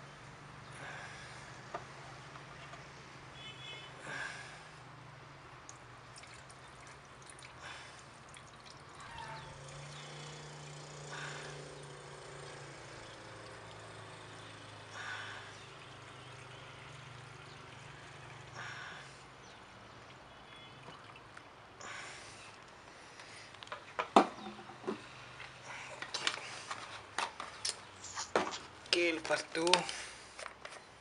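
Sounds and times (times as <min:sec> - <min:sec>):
fuel trickling into plastic tank: 0:05.6 - 0:30.8.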